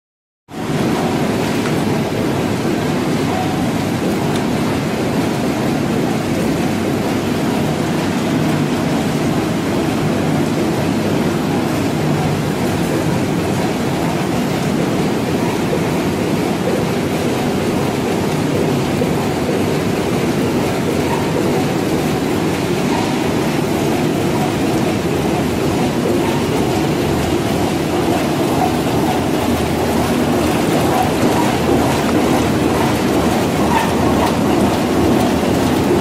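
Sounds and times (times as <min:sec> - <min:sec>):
machinery rattling and humming: 0:00.5 - 0:36.0.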